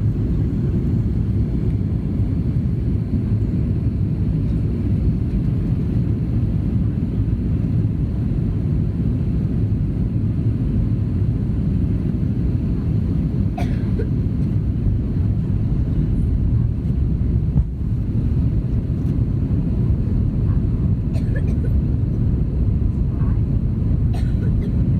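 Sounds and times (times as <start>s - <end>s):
airliner cabin engine roar: 0.0s - 24.9s.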